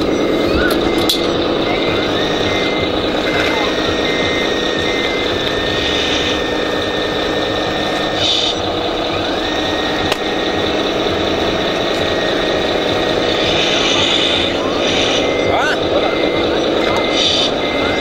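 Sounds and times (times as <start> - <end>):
model machine engine drone: 0.0 - 18.0
thin whine: 0.0 - 18.0.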